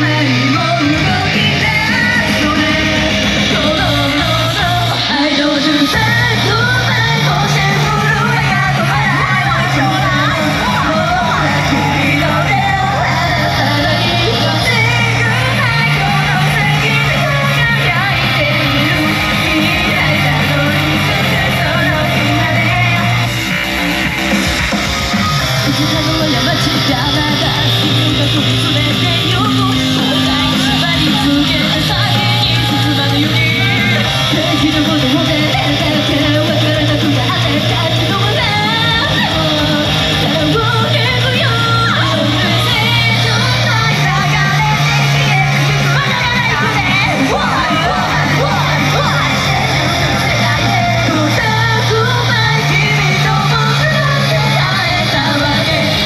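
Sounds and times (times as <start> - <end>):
bass guitar: 0.0 - 56.0
distorted guitar: 0.0 - 56.0
person singing: 0.0 - 56.0
pop-rock song with vocals: 0.0 - 56.0.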